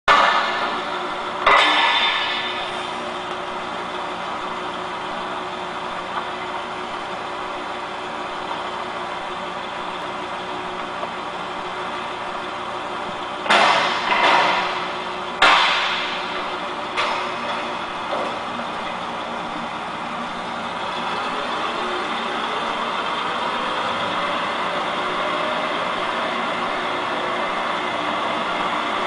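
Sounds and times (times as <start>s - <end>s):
engine running steadily: 0.1s - 29.0s.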